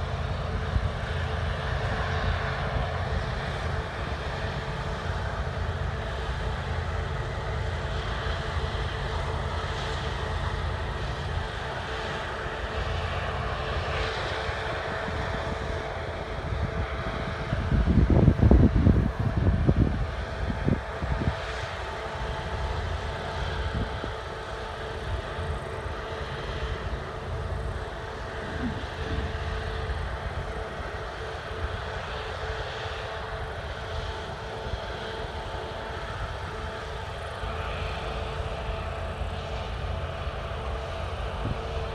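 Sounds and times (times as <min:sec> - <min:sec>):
diesel engines droning: 0:00.0 - 0:41.9.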